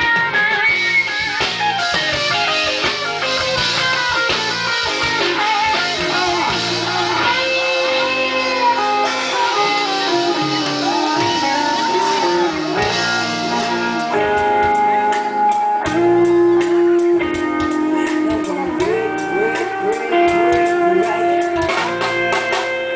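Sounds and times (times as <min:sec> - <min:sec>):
electric guitar lead with bending notes: 0:00.0 - 0:22.9
live rock band playing: 0:00.0 - 0:22.9
steady drumbeat: 0:00.0 - 0:22.9.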